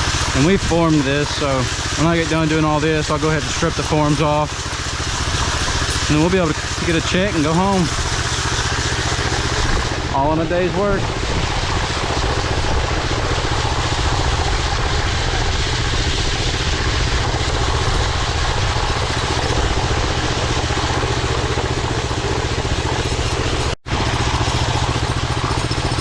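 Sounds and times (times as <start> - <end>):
power trowel engine running: 0.0 - 26.0.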